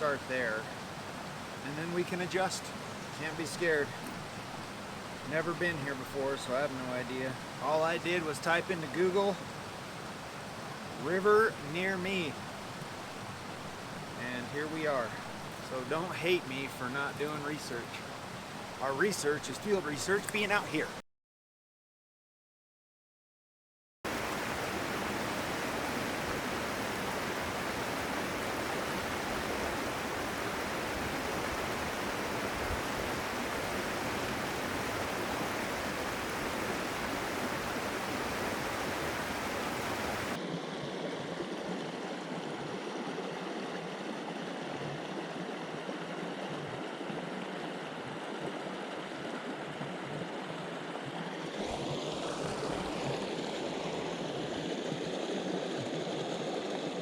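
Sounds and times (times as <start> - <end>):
creek water rushing over rocks: 0.0 - 21.0, 24.1 - 57.0.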